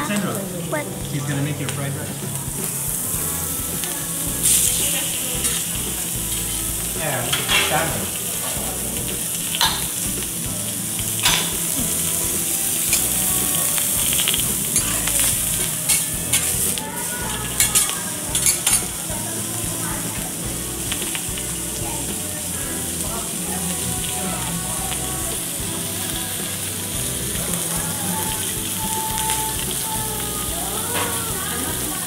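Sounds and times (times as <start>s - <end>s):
vegetables sizzling on a griddle: 0.0s - 32.0s.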